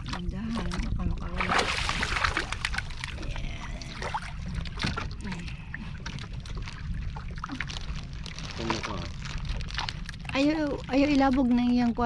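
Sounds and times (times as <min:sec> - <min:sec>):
water sloshing around a boat: 0:00.0 - 0:12.0
wind rumble on microphone: 0:00.0 - 0:12.0.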